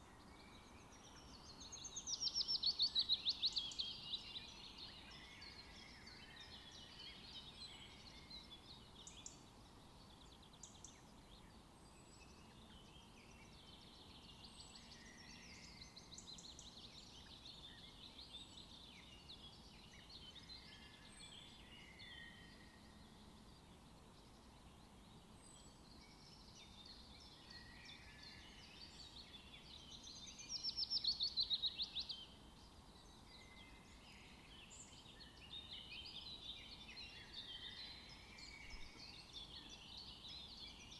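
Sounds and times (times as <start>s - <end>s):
faint background hiss: 0.0s - 40.9s.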